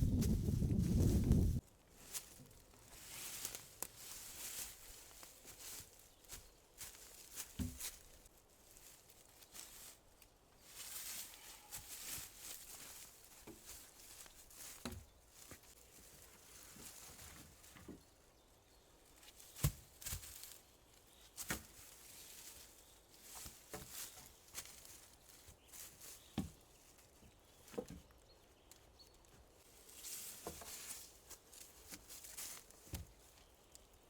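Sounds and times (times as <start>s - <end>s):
dry leaves and branches rustling: 0.0s - 34.0s.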